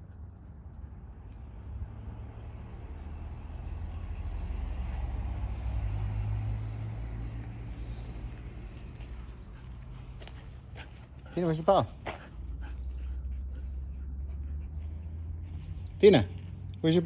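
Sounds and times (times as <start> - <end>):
passing engine rumble: 0.0 - 17.0.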